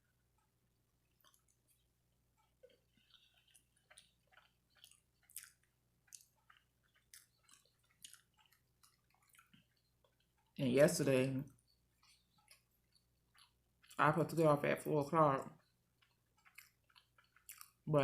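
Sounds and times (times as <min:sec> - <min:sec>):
person chewing with mouth smacks: 0:00.3 - 0:10.6, 0:11.5 - 0:14.0, 0:15.4 - 0:17.9.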